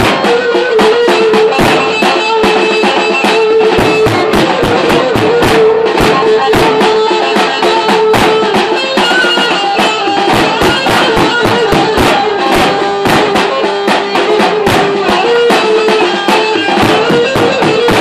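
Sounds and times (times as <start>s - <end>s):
band melody line: 0.0s - 18.0s
fast drum kit playing: 0.0s - 18.0s.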